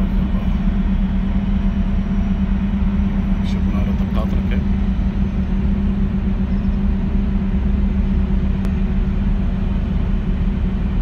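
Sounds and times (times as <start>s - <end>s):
diesel engines droning: 0.0s - 11.0s.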